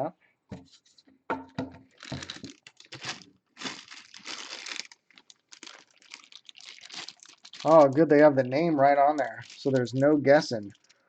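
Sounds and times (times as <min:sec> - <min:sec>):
plastic packaging crinkling: 0:01.9 - 0:11.0.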